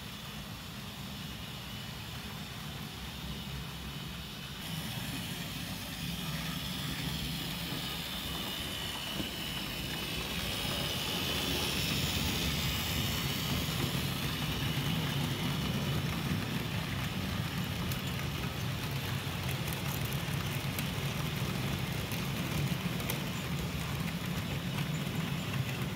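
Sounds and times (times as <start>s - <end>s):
model train wheels rumbling: 0.0s - 25.9s.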